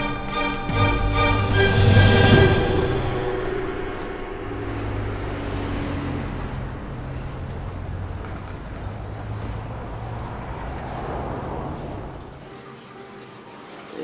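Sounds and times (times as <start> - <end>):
rumble of passing vehicles: 0.7 - 13.5.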